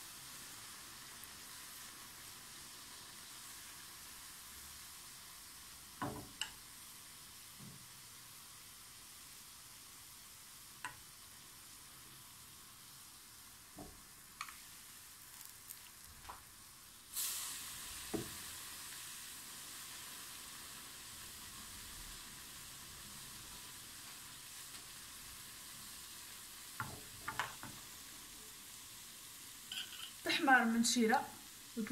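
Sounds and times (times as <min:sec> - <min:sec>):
hot oil sizzling in a pan: 0:00.0 - 0:31.9.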